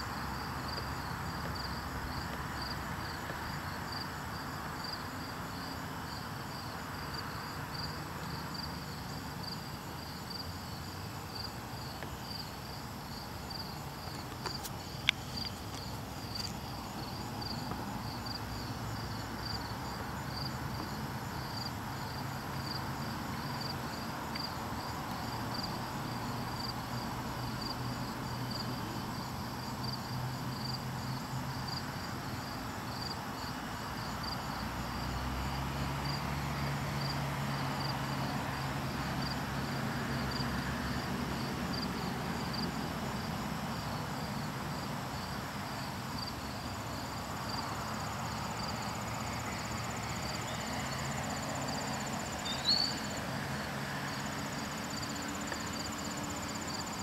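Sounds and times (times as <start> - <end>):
insect chirping: 0.0 - 57.0.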